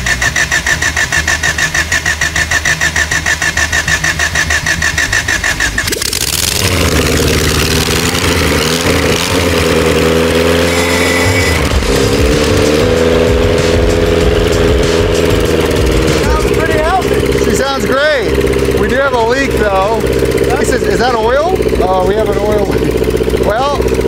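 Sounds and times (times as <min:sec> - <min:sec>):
car engine running: 0:00.0 - 0:24.0
starter motor cranking engine: 0:00.0 - 0:24.0.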